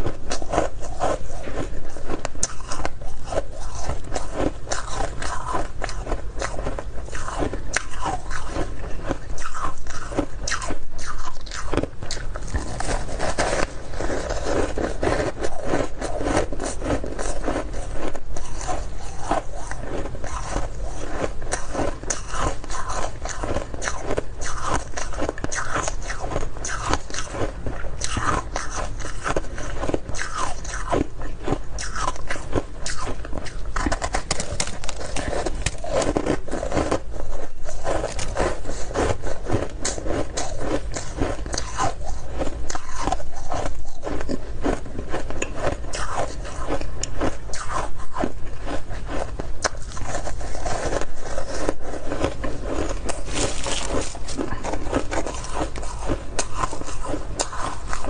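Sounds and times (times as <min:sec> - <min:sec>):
crunching ice: 0:00.0 - 0:58.0.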